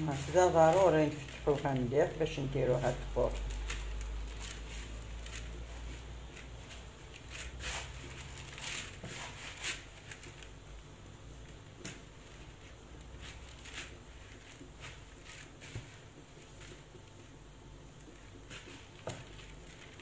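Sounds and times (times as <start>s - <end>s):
noodles rustling by hand: 0.0s - 20.0s.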